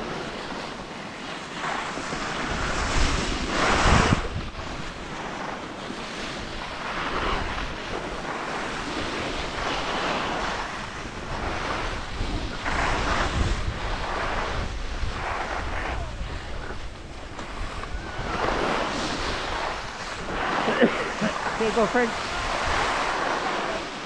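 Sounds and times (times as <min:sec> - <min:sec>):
skis hissing over snow: 0:00.0 - 0:24.0
wind rushing across microphone: 0:00.0 - 0:24.0.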